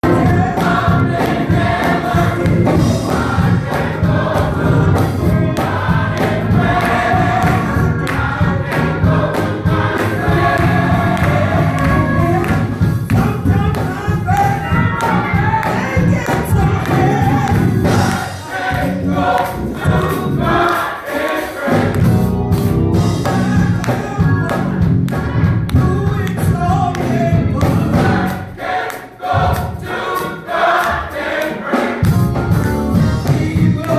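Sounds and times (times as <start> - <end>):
drums and bass beat: 0.0 - 20.8, 21.6 - 28.6, 29.2 - 30.9, 31.7 - 33.9
gospel choir singing: 0.0 - 33.9.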